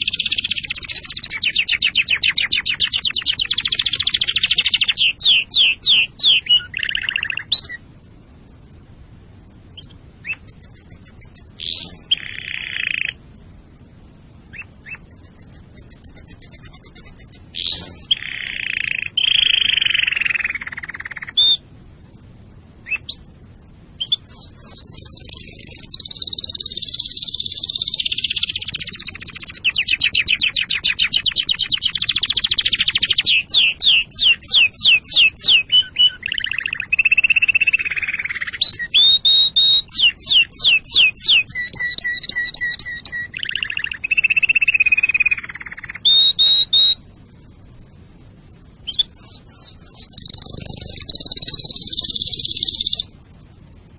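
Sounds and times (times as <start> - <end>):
canary singing trills: 0.0 - 7.9, 9.6 - 21.7, 22.4 - 53.6.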